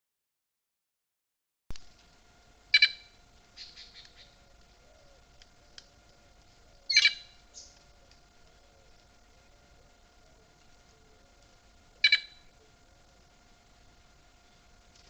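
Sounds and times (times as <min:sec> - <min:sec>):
faint animal calls: 0:02.7 - 0:14.8.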